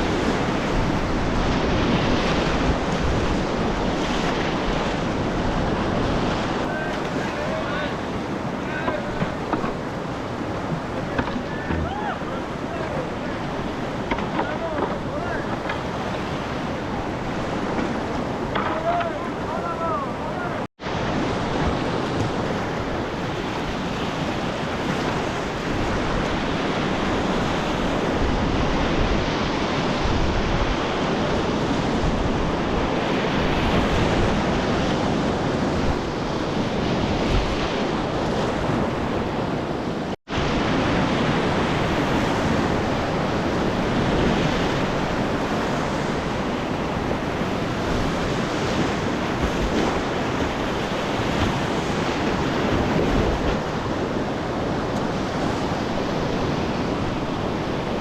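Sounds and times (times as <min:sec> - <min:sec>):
whitewater rapids roaring: 0:00.0 - 0:39.1, 0:40.0 - 0:58.0
wind on microphone: 0:00.0 - 0:58.0.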